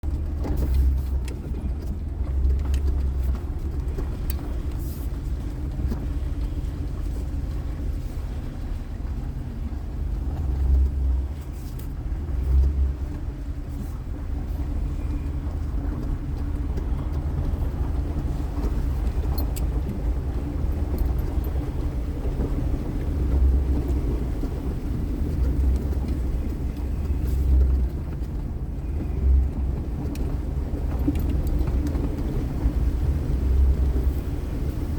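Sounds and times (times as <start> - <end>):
moving car rumble: 0.0 - 34.9.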